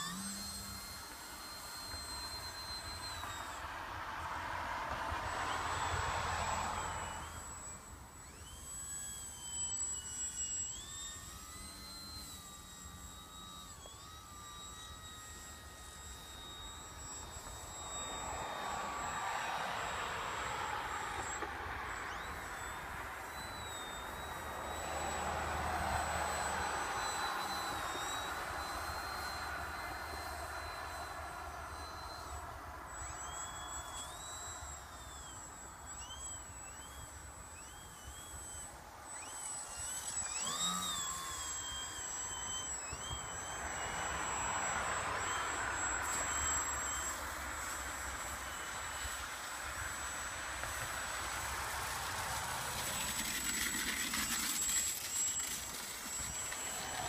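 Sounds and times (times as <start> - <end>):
electric motor and propeller whining: 0.0 - 57.0.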